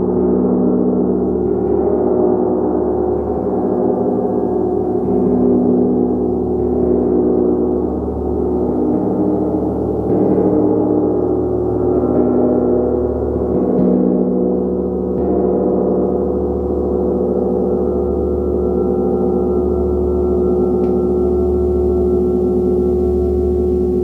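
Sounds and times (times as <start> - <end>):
gong ringing: 0.0 - 24.0.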